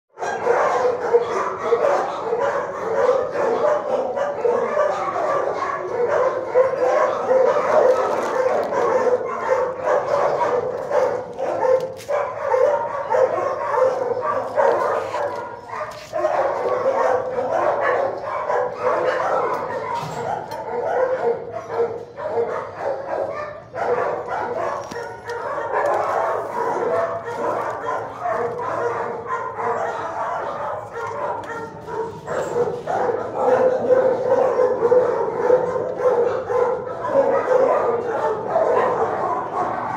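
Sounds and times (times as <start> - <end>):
many dogs barking: 0.1 - 39.9.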